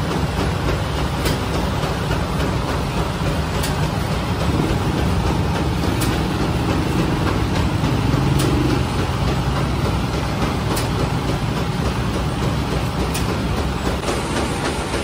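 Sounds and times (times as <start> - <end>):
bread machine humming: 0.0 - 15.0.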